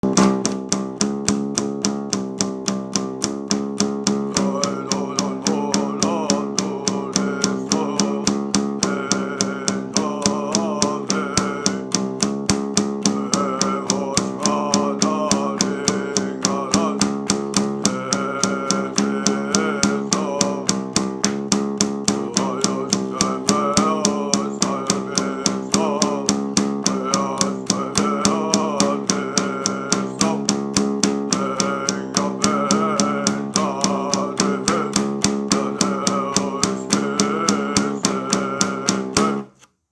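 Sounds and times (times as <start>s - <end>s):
guitar strumming: 0.0s - 39.7s.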